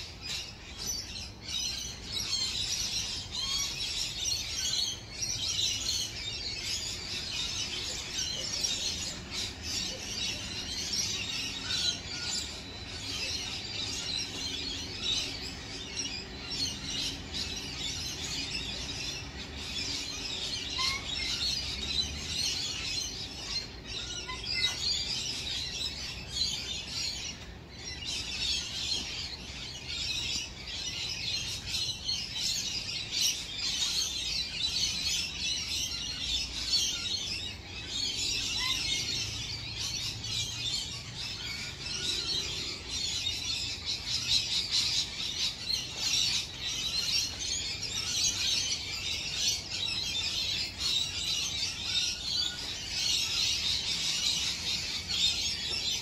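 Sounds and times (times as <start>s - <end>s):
birds chattering chorus: 0.0s - 56.0s.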